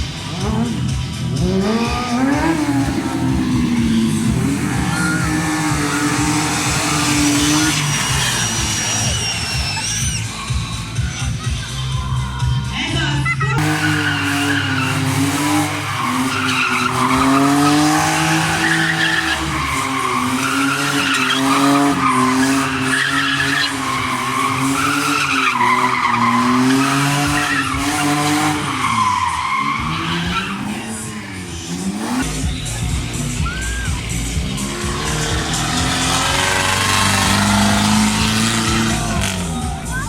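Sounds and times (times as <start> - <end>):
monster truck engine revving: 0.0 - 40.0.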